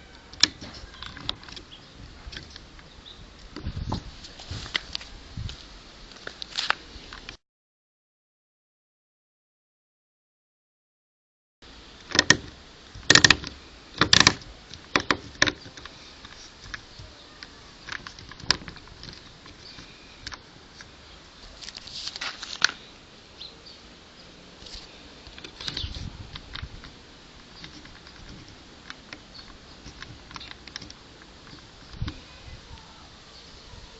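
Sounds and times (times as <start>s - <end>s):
rustling: 0.0s - 7.4s, 12.1s - 33.9s.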